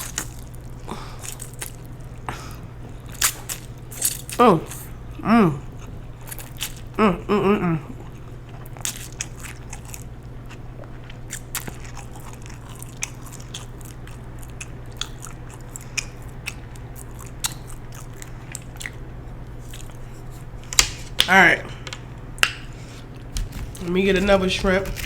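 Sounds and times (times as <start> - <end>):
person chewing crunchy food: 0.0 - 7.0, 7.8 - 21.2, 22.6 - 25.0
steady low hum: 0.0 - 25.0.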